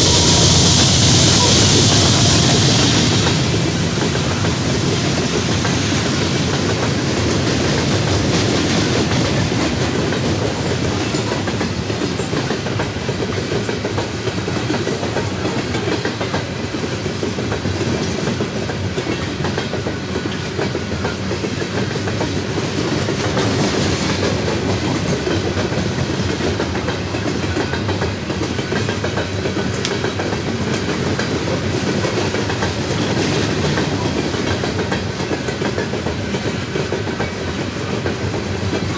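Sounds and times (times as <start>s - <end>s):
train wheels clacking on rails: 0.0s - 38.9s.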